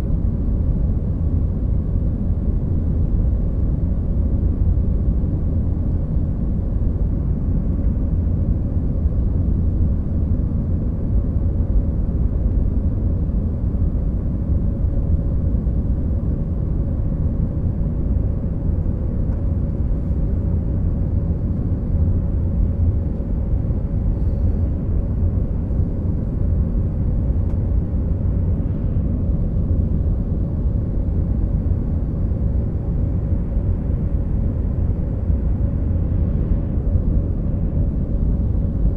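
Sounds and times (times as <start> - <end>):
faint constant hum: 0.0 - 38.9
jet engines and airflow rumble: 0.0 - 38.9.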